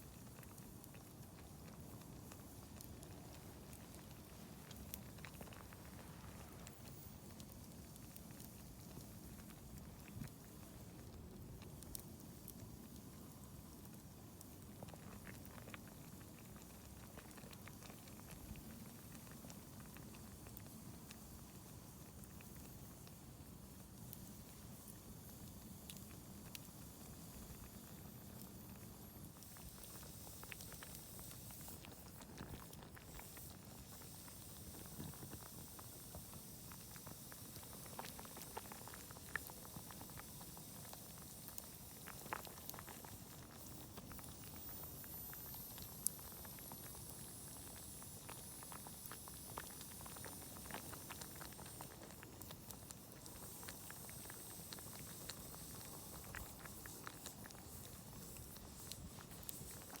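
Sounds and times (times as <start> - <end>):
burning wood crackling: 0.0 - 60.0
food bubbling in a pot: 0.0 - 60.0.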